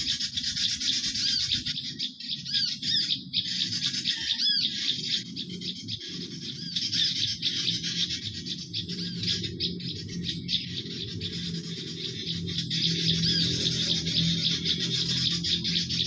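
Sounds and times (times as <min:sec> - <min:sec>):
low drone: 0:00.0 - 0:16.0
small birds chirping: 0:00.0 - 0:16.0.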